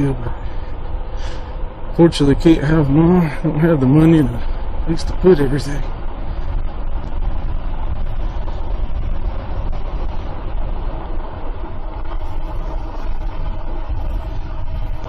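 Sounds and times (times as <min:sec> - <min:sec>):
tyre and road noise: 0:00.0 - 0:15.0
wind rumble on microphone: 0:00.0 - 0:15.0.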